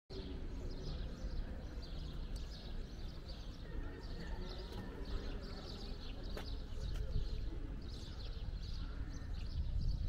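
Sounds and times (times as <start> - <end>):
low rumble of wind or traffic: 0.1 - 10.0
small birds chirping: 0.1 - 10.0.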